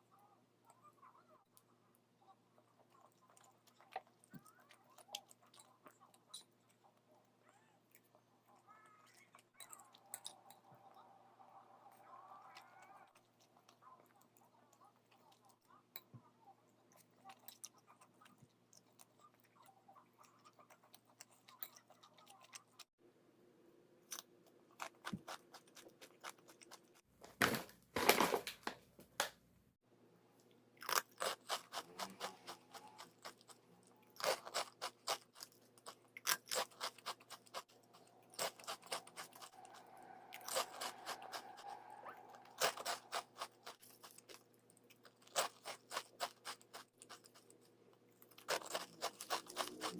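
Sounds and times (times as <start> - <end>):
crunchy snacks being chewed: 1.0 - 22.9, 24.0 - 27.1, 30.8 - 49.9.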